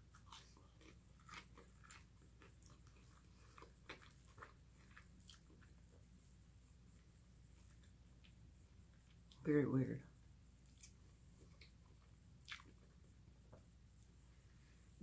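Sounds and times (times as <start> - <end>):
person chewing food: 0.0 - 9.4, 10.6 - 13.7.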